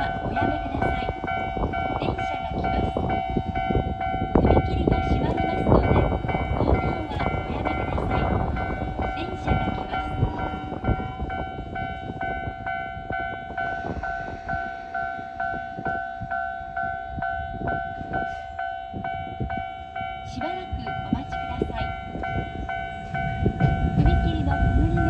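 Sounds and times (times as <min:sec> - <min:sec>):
level-crossing alarm dinging: 0:00.0 - 0:25.0
train rumbling past: 0:00.0 - 0:25.0
train wheel clacks: 0:00.0 - 0:25.0.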